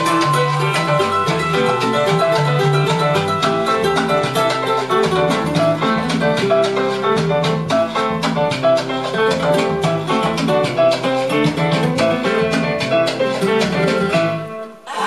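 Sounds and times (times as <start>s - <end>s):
plucked guitar music: 0.0s - 14.9s.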